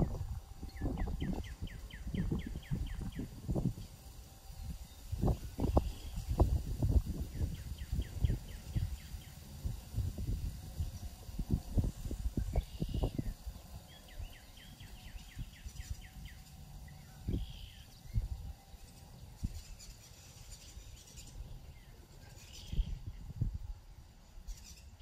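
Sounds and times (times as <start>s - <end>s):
birds singing: 0.0s - 25.0s.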